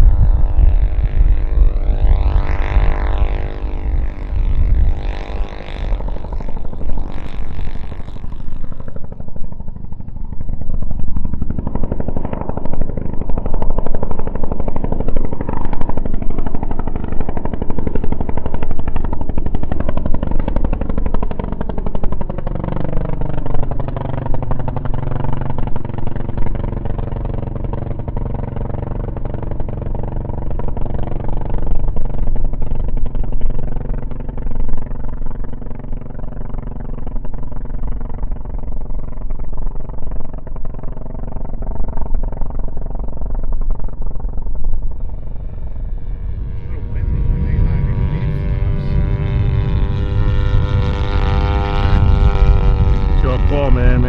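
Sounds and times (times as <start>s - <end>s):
model airplane engine running: 0.0s - 54.0s.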